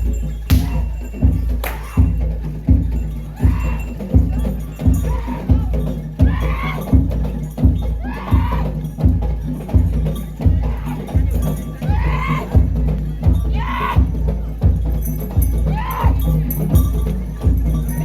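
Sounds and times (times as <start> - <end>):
heavy bass drum beats: 0.0 - 18.0
light percussion: 0.0 - 18.0.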